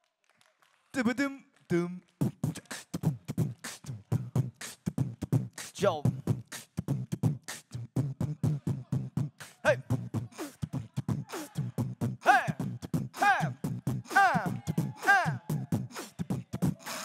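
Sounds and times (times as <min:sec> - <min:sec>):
beatboxing groove: 0:01.7 - 0:17.0.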